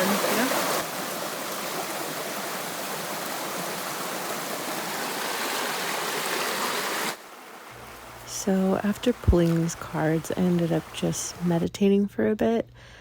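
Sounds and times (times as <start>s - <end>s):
stream running water: 0.0s - 11.7s.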